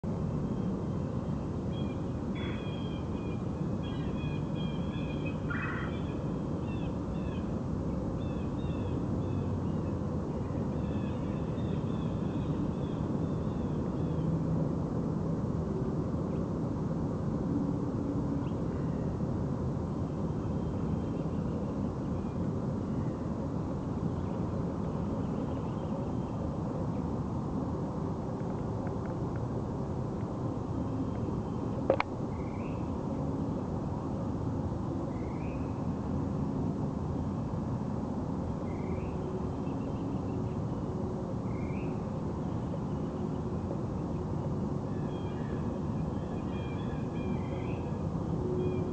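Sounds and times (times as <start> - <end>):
low outdoor rumble: 0.0 - 48.9.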